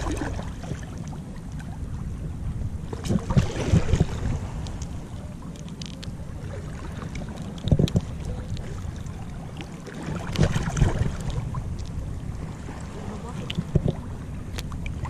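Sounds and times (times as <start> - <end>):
sea waves splashing: 0.0 - 15.0
wind on microphone: 0.0 - 15.0.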